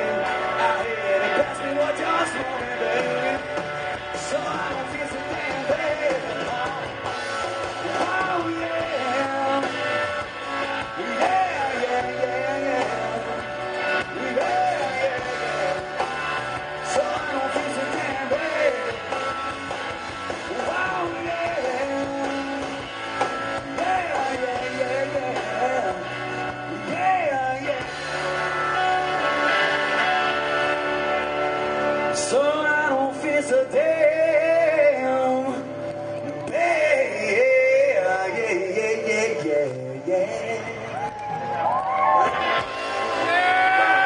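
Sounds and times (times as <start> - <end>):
bass guitar: 0.0 - 44.0
drums: 0.0 - 44.0
electric guitar lead: 0.0 - 44.0.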